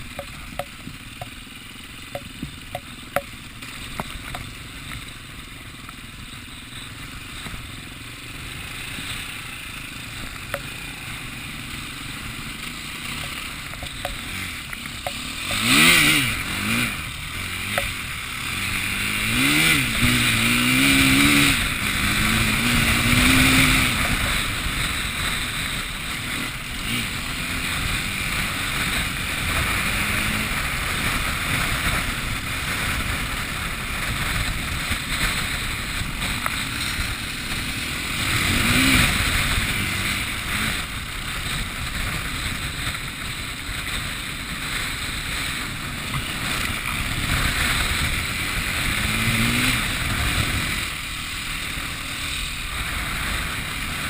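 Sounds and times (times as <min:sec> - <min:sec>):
wind and wet weather: 0:00.0 - 0:54.0
engine passing: 0:08.0 - 0:54.0.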